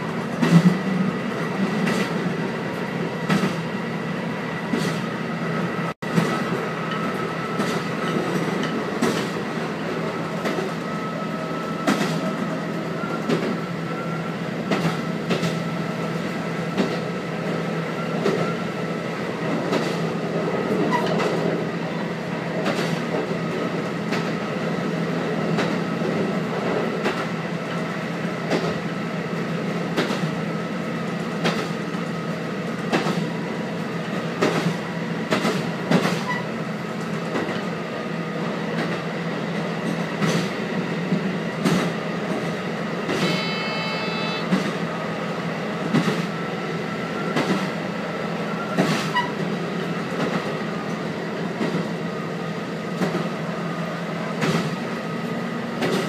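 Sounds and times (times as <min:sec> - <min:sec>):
railcar engine drone: 0:00.0 - 0:56.0.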